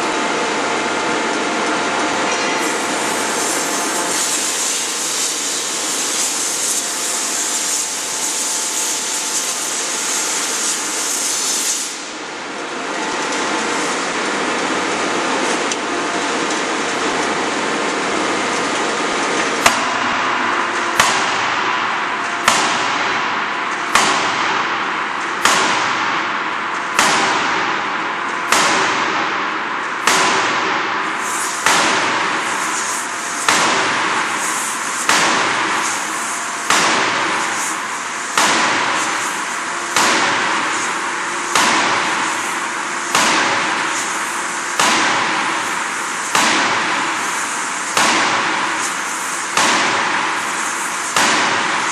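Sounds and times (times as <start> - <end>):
steady machine hum: 0.0 - 51.9.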